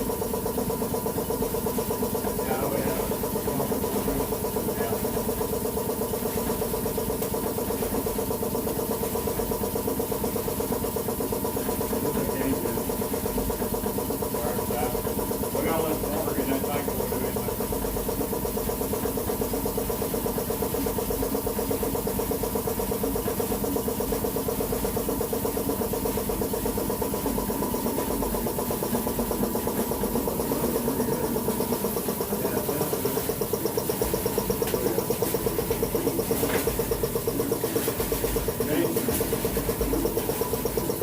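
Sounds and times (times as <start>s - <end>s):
small engine humming: 0.0s - 41.0s.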